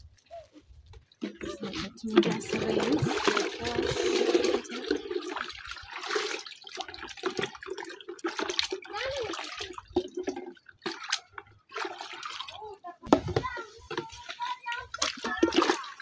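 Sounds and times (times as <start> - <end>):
water sloshing in plastic bucket: 0.0 - 16.0.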